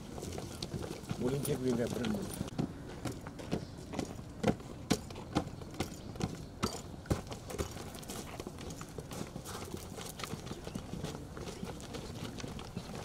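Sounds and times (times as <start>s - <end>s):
boots marching on concrete: 0.0s - 13.0s.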